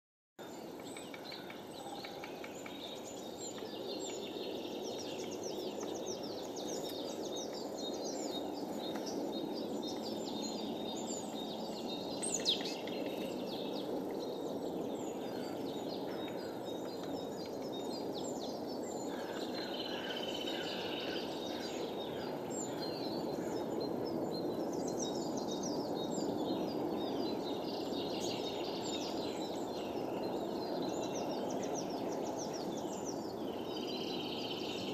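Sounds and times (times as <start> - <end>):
songbirds chirping: 0.4 - 34.9.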